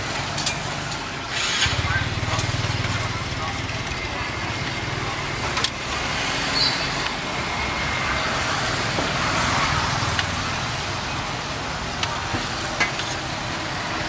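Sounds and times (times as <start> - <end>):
street traffic engine hum: 0.0 - 14.0.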